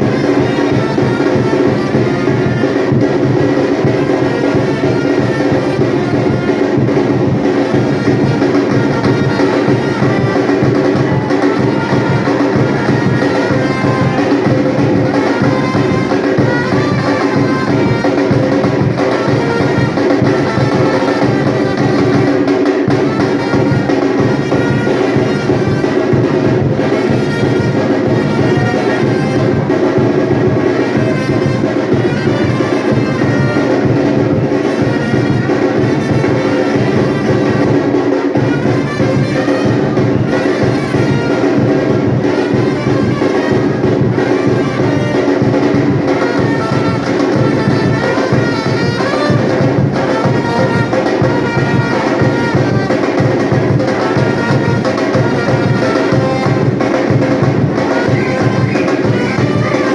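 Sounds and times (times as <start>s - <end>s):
percussion group drumming: 0.0s - 59.9s.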